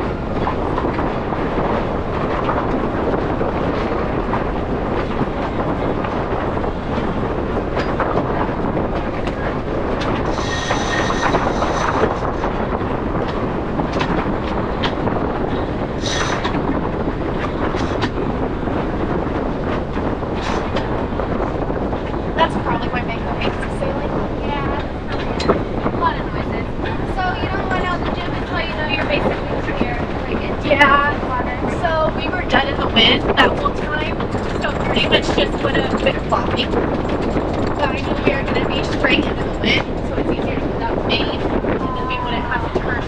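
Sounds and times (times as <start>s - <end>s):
wind and water rushing past hull: 0.0s - 43.0s.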